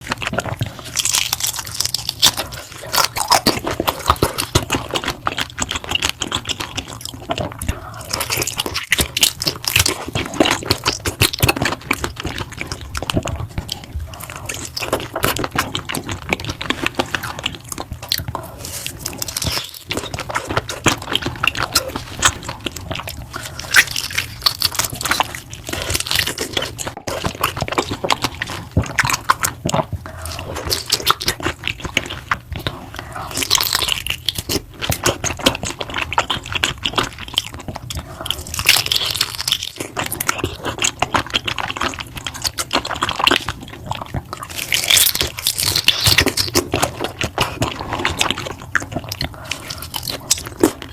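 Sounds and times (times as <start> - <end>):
crunching and chewing food: 0.0 - 50.9.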